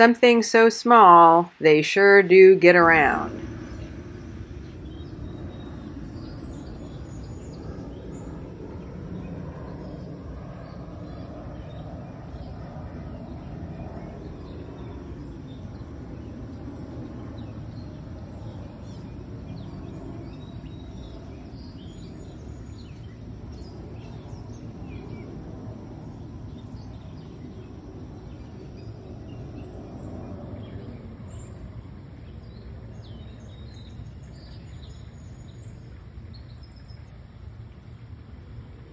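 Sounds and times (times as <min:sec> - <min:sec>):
low background rumble: 0:00.0 - 0:38.9.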